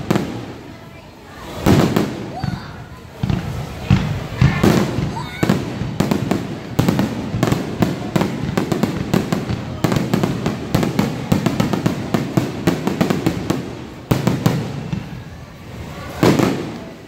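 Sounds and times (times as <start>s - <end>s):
fireworks bangs and crackling: 0.0s - 17.0s
heavy firework boom: 1.5s - 15.4s.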